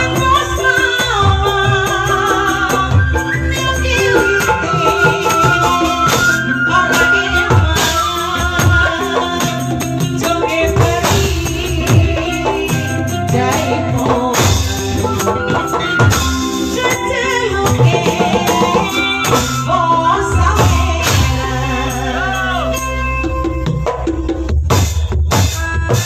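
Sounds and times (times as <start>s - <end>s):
live band music: 0.0s - 26.0s.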